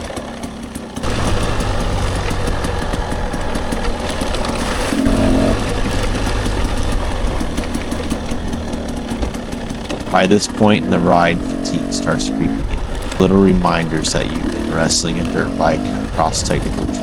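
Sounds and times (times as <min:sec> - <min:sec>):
dirt bike engine running: 0:00.0 - 0:17.0
tyre noise: 0:00.0 - 0:17.0.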